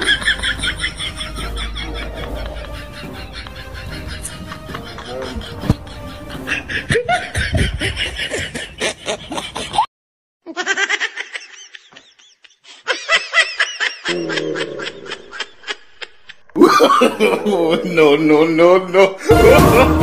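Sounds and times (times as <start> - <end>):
person laughing: 0.0 - 9.9, 10.5 - 17.8.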